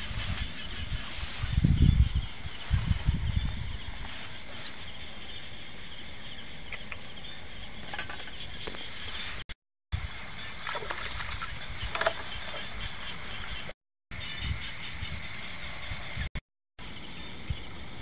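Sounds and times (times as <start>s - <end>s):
crickets chirping: 0.1s - 13.6s, 14.2s - 18.0s.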